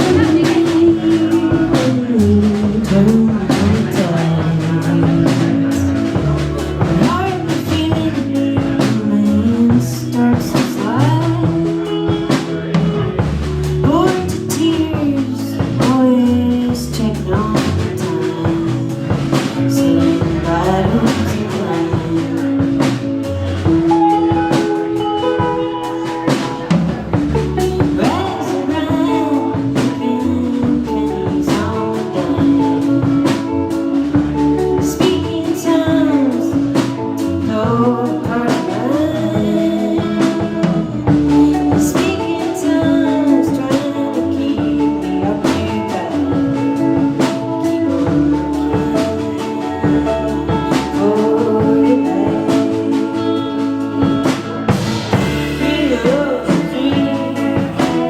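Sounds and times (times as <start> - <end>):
drum rimshots: 0.0 - 58.0
guitar: 0.0 - 58.0
rock band playing live: 0.0 - 58.0.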